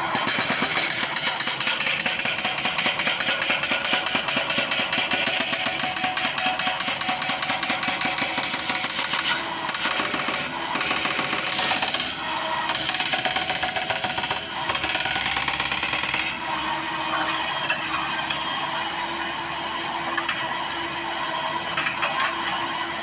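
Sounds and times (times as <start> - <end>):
motor running with rattling rhythm: 0.0 - 23.0.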